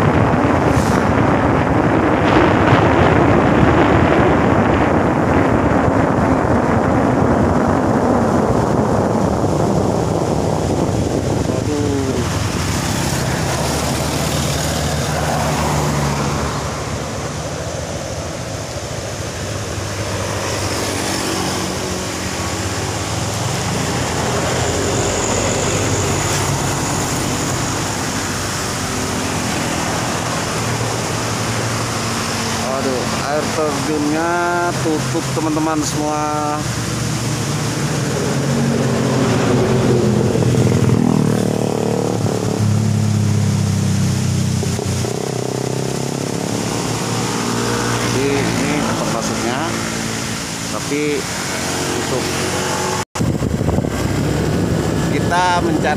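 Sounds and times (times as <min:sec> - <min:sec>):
motorcycle engine: 0:00.0 - 0:33.7, 0:36.0 - 0:55.9
road noise: 0:00.0 - 0:55.9
wind rushing over microphone: 0:00.0 - 0:55.9.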